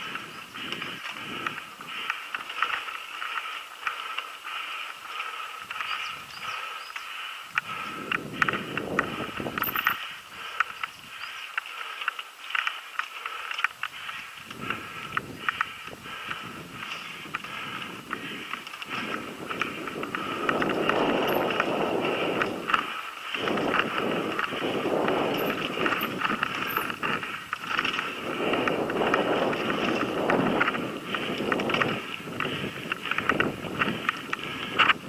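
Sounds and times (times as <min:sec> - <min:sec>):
bike rattling and clicking: 0:00.0 - 0:35.0
bike tyres rolling on dirt: 0:00.0 - 0:35.0.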